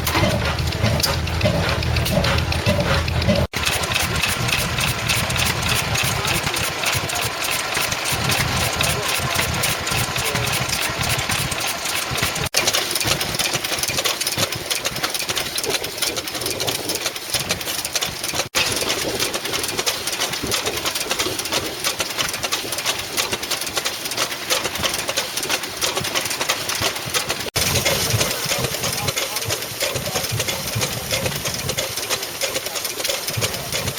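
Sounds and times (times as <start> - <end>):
stationary engines running: 0.0 - 33.9.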